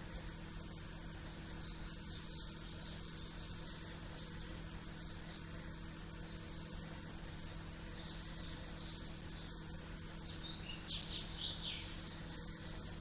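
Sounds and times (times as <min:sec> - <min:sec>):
background hiss: 0:00.0 - 0:13.0
small birds chirping: 0:00.0 - 0:13.0.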